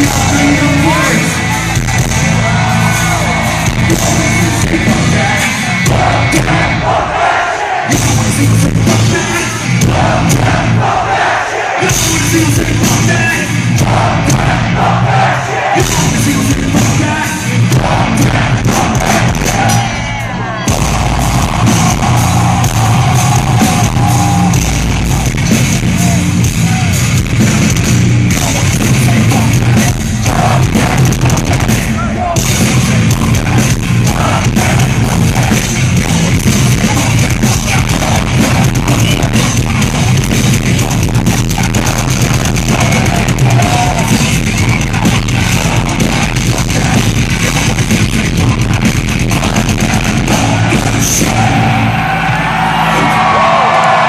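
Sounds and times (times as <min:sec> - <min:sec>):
crowd yelling along: 0:00.0 - 0:54.0
live metal band playing: 0:00.0 - 0:54.0
singing vocals: 0:02.5 - 0:26.9, 0:28.3 - 0:52.2.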